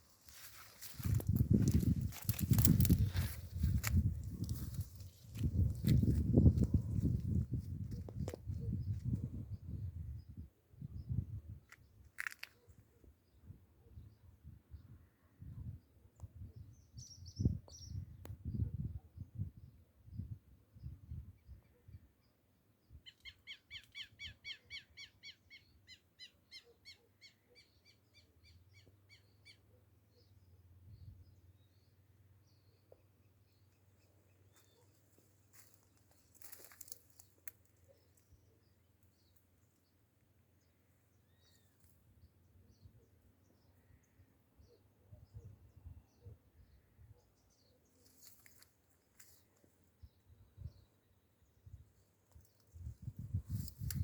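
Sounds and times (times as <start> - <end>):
small birds chirping: 0.2 - 13.5, 21.5 - 54.0.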